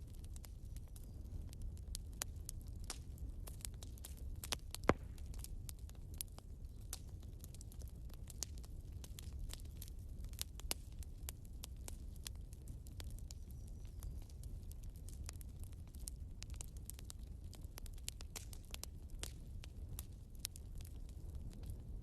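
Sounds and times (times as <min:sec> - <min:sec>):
firewood crackling and popping: 0:00.0 - 0:22.0
low steady fire rumble: 0:00.0 - 0:22.0.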